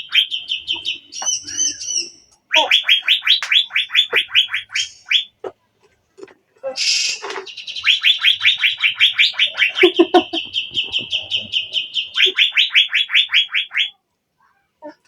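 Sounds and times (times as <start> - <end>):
bird calling rapid rising notes: 0.0 - 5.4, 6.8 - 14.0.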